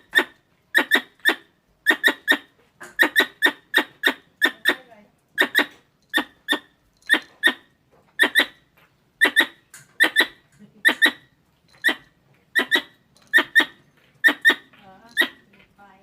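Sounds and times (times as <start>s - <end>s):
squirrel chirping: 0.0s - 15.5s.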